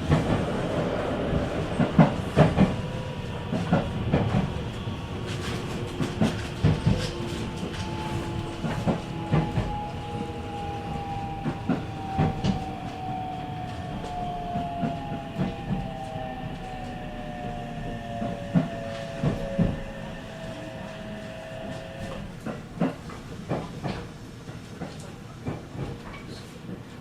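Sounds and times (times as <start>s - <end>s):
electric train motor whine: 0.0s - 23.6s.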